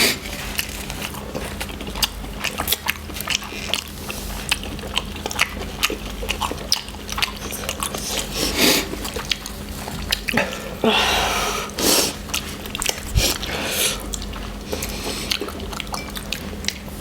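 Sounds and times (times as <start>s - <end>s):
people chewing noodles: 0.0s - 17.0s.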